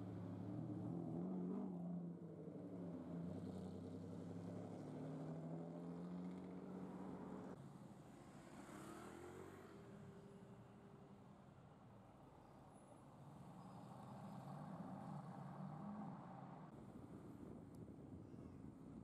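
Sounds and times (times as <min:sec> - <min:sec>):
quieter car engine: 0:00.0 - 0:19.0.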